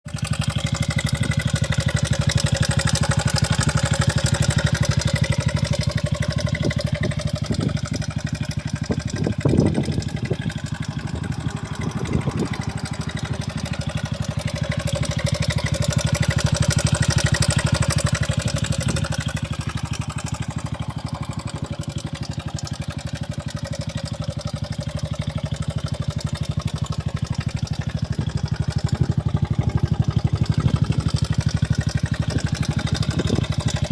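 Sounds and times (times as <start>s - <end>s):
motorcycle engine idling: 0.0s - 33.9s
engine knocks: 0.1s - 33.9s.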